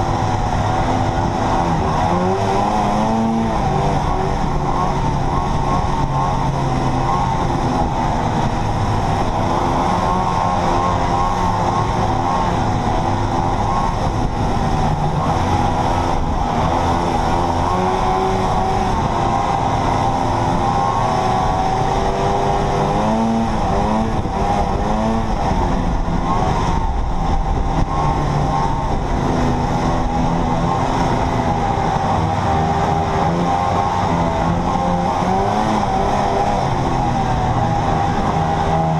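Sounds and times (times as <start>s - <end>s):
snowmobile two-stroke engine: 0.0s - 38.9s.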